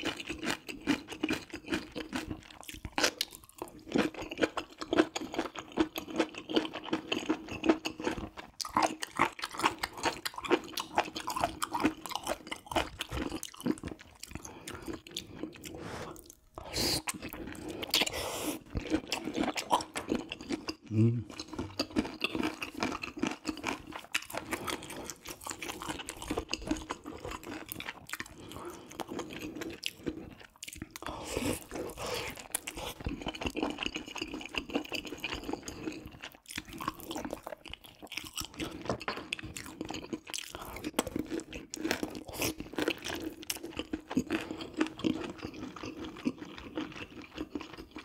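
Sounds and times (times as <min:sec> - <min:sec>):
close-miked chewing: 0:00.0 - 0:48.0.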